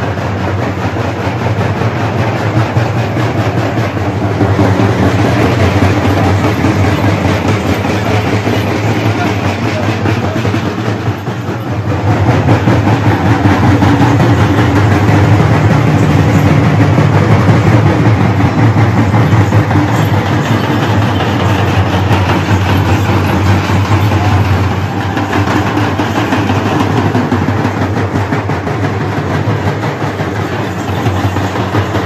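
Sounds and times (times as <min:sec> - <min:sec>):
frame drums beaten fast: 0:00.0 - 0:32.0.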